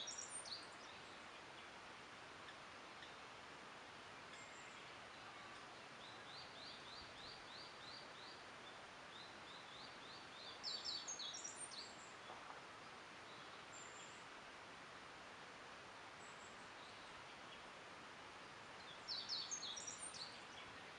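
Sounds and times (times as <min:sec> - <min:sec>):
soft steady hiss: 0:00.0 - 0:20.9
songbirds singing: 0:00.0 - 0:20.9.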